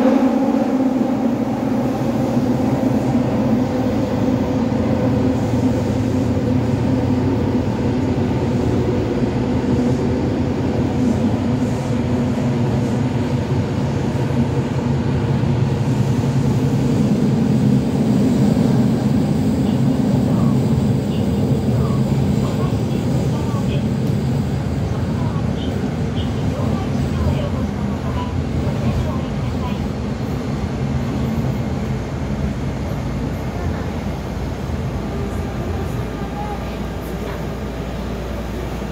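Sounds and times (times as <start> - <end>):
subway car rumbling in tunnel: 0.0 - 38.9.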